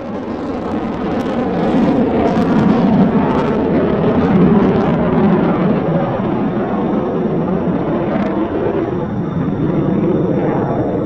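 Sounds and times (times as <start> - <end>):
deep jet engine rumble: 0.0 - 11.0.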